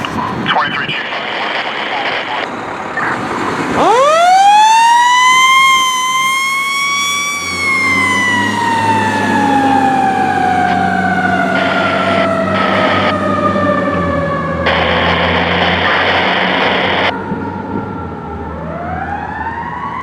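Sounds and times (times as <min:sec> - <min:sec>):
fire engine siren wailing: 0:01.3 - 0:20.0.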